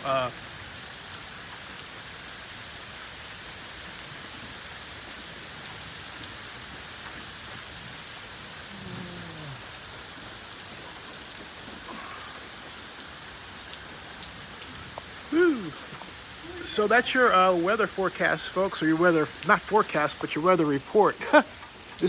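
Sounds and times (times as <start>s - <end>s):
raindrops ticking: 0.0s - 22.0s
steady rain: 0.0s - 22.0s.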